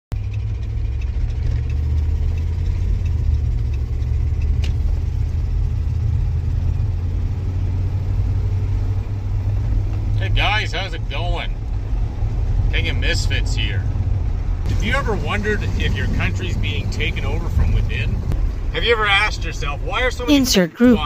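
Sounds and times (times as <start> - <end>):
vehicle engine and road noise: 0.1 - 21.0.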